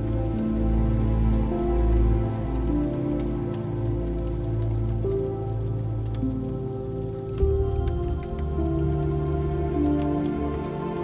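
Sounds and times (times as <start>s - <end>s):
faint ticks: 0.0s - 11.0s
low rumble: 0.0s - 11.0s
soft ambient music: 0.0s - 11.0s.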